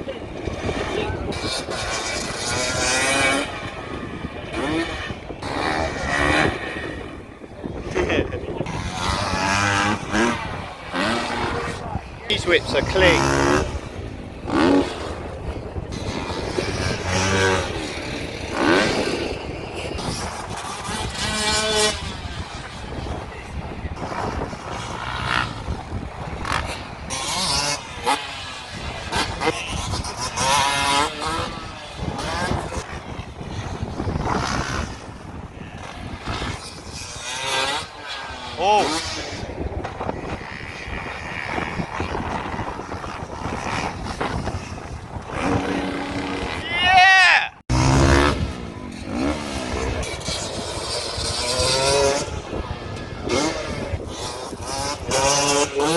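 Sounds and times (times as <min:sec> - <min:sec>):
dirt bike engines revving: 0:00.0 - 0:55.9
wind on microphone: 0:00.0 - 0:55.9.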